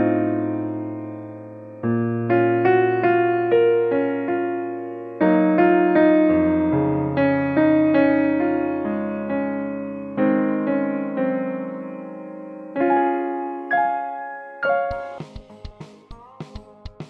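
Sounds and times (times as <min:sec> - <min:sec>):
gentle piano music: 0:00.0 - 0:15.3.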